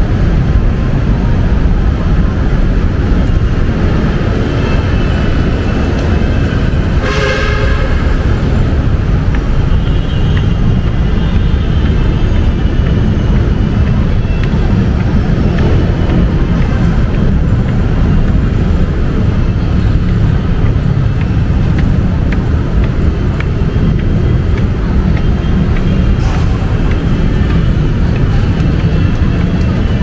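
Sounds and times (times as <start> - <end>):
heavy road traffic rumble: 0.0 - 30.0.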